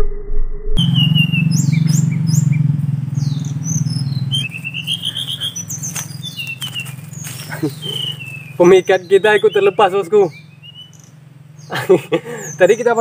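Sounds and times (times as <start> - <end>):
steady low hum: 0.0 - 12.4
birds chirping and calling: 0.8 - 13.0.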